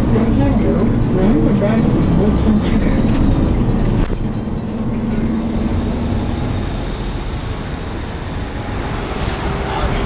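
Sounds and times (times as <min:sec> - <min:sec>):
bus rumble from inside: 0:00.0 - 0:10.0.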